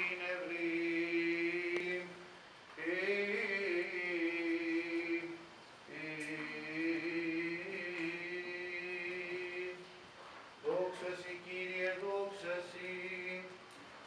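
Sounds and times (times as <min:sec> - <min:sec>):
man chanting: 0:00.0 - 0:02.2, 0:02.8 - 0:09.8, 0:10.6 - 0:13.6.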